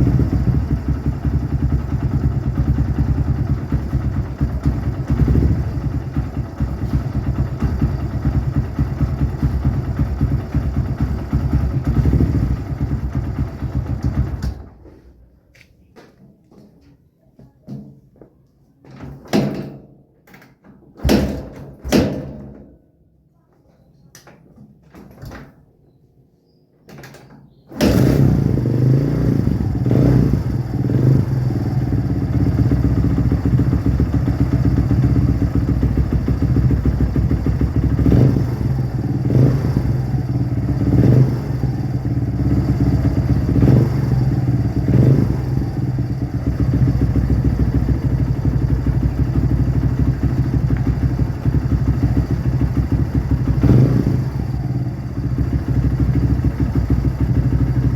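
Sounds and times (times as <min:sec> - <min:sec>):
motorcycle engine starting and running: 0:00.0 - 0:15.3, 0:20.5 - 0:22.8, 0:27.0 - 0:57.9.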